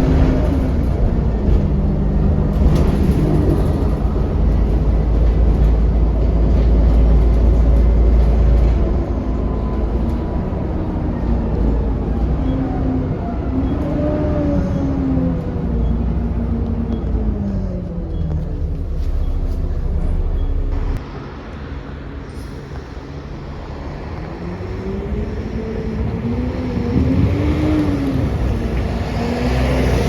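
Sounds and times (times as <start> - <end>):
bus diesel engine rumble: 0.0 - 30.0.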